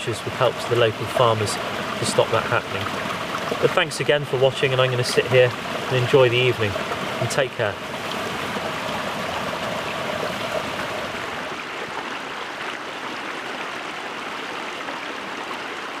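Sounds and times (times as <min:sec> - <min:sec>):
stream flowing: 0:00.0 - 0:16.0.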